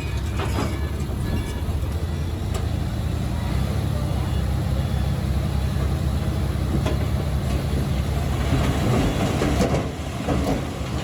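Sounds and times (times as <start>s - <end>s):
steel tracks clanking: 0.0s - 3.6s, 5.8s - 11.0s
bulldozer diesel engine under load: 0.0s - 11.0s.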